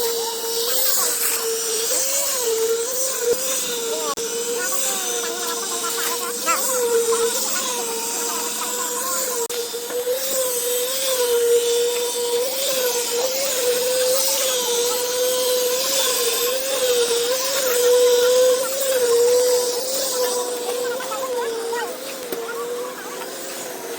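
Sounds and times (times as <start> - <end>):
machine humming high-pitched: 0.0 - 23.9.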